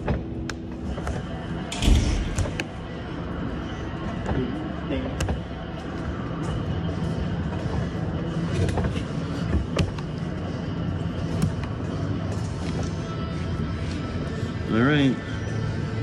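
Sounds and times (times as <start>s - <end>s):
low workshop hum: 0.0s - 16.0s.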